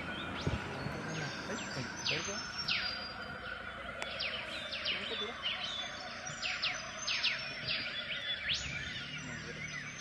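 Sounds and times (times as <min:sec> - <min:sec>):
birds whistling downward calls: 0:00.0 - 0:10.0
steady background drone: 0:00.0 - 0:10.0.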